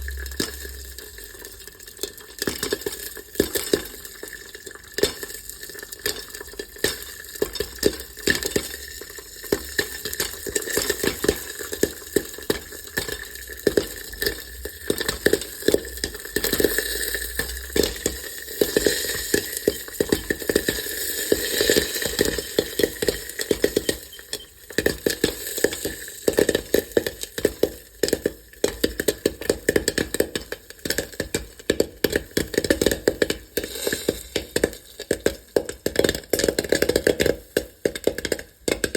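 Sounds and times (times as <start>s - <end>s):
steady sizzle: 0.0s - 38.9s
popcorn popping: 2.5s - 38.9s.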